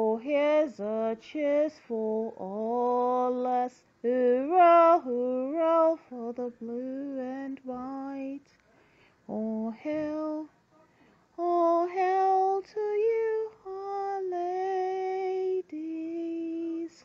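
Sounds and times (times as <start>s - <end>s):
woman singing unaccompanied: 0.0s - 8.6s, 9.2s - 10.6s, 11.4s - 17.0s.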